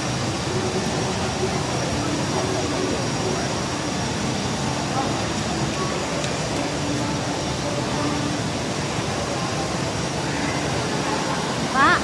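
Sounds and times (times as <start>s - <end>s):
crowd murmur: 0.0s - 12.0s
faint distant voices: 0.0s - 12.0s
ventilation noise: 0.0s - 12.0s.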